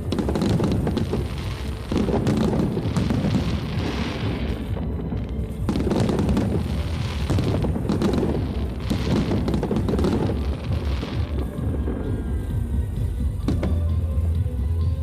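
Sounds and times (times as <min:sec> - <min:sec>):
firework shells booming: 0:00.0 - 0:12.4
fireworks crackling: 0:00.0 - 0:15.0.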